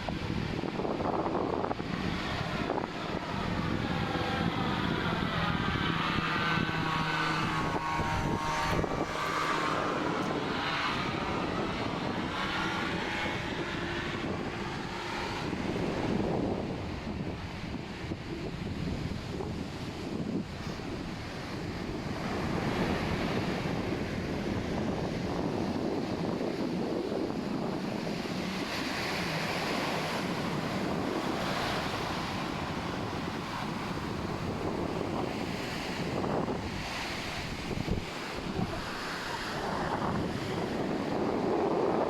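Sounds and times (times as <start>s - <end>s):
ocean surf breaking: 0.0s - 42.0s
wind noise on microphone: 0.0s - 42.0s.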